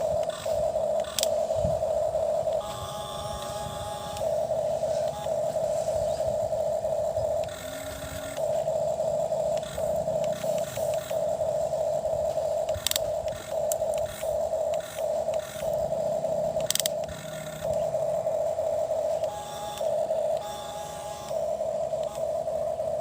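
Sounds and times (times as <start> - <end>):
sharp clicks: 0.0 - 22.6
toy electric motor whining: 0.0 - 23.0.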